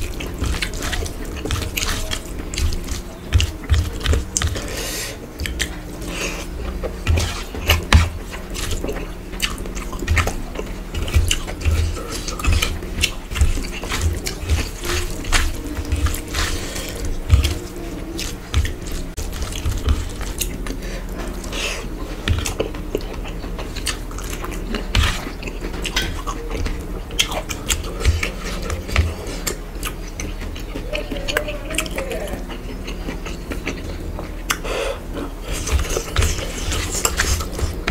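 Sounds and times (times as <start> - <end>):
wet squishing of food by hand: 0.0 - 37.9.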